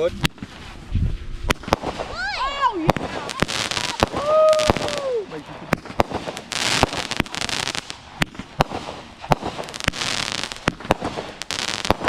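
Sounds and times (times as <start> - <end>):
fireworks bangs and pops: 0.0 - 12.0
fireworks hissing crackle: 0.0 - 12.0.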